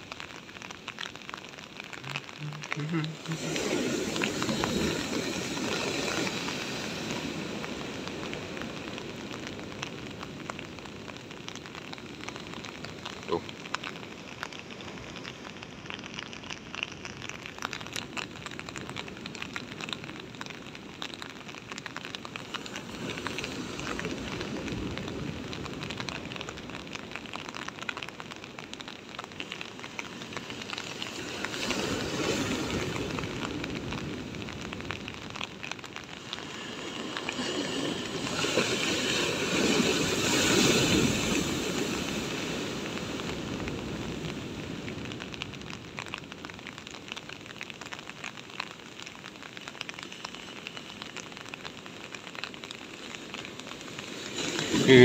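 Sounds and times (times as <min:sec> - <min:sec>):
ocean surf breaking: 0:00.0 - 0:15.5, 0:17.5 - 0:46.1, 0:50.0 - 0:55.0
rain falling: 0:00.0 - 0:55.0.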